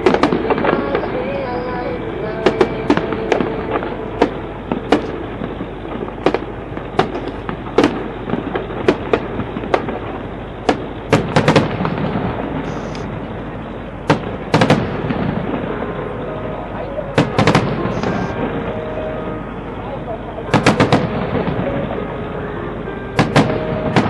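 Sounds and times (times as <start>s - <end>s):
firework shells bursting: 0.0s - 1.5s, 2.4s - 16.2s, 17.1s - 18.7s, 20.5s - 22.1s, 23.2s - 24.0s.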